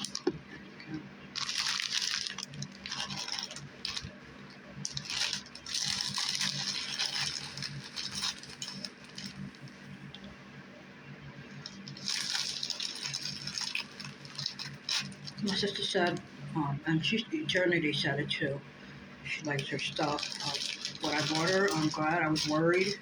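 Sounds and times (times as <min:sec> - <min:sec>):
crinkly material rustling: 0:00.0 - 0:10.4, 0:11.5 - 0:16.4, 0:19.4 - 0:23.0
low steady hum: 0:00.0 - 0:23.0.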